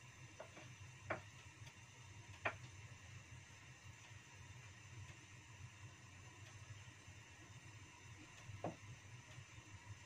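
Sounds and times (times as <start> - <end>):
light hiss: 0.0 - 10.0.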